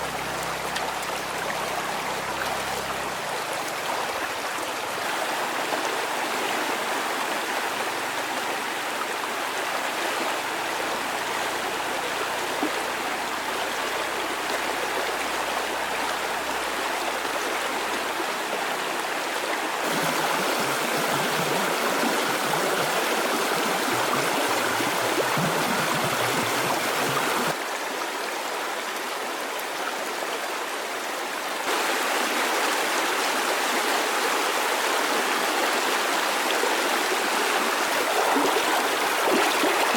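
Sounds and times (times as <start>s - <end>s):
water rushing: 0.0s - 27.6s, 31.7s - 39.9s.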